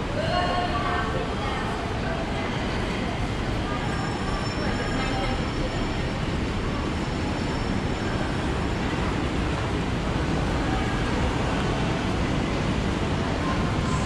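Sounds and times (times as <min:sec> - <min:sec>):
low rumble of indoor concourse: 0:00.0 - 0:14.0.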